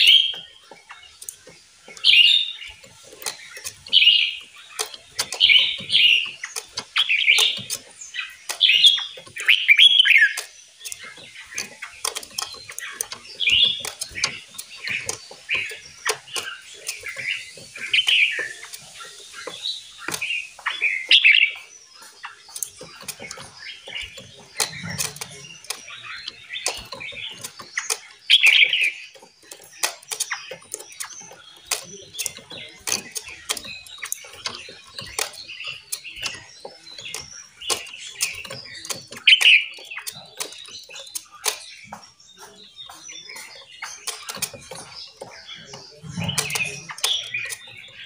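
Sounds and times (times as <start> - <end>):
sharp clicks: 0.0 - 48.0
songbirds chirping: 0.0 - 48.0.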